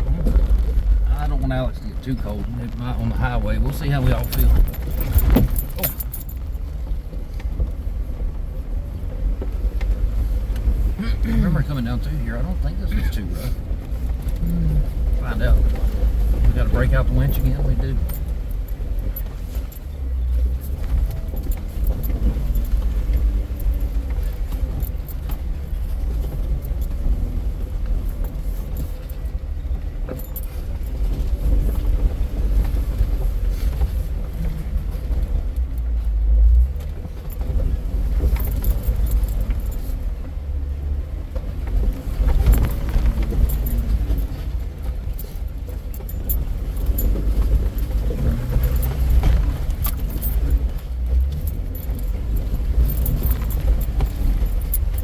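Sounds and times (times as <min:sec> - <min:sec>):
body and loose gear rattling: 0:00.0 - 0:55.0
engine and drivetrain rumble: 0:00.0 - 0:55.0.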